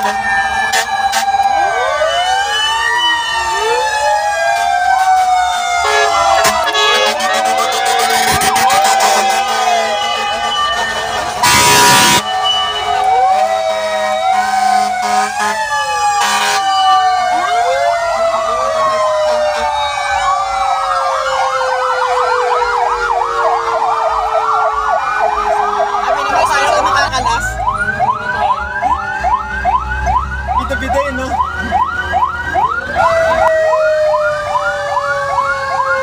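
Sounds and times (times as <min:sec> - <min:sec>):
fast siren yelp: 0:00.0 - 0:36.0
fire truck sirens wailing: 0:00.0 - 0:36.0
siren tone sliding down: 0:00.1 - 0:30.6, 0:31.3 - 0:36.0.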